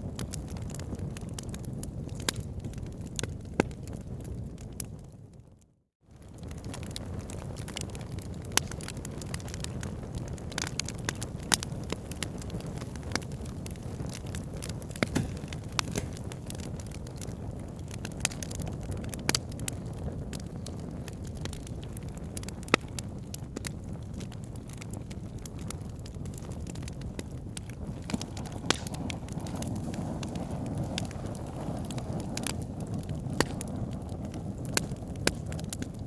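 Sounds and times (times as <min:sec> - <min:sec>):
wood fire rumbling: 0:00.0 - 0:05.4, 0:06.1 - 0:36.0
fire crackles and pops: 0:00.0 - 0:36.0.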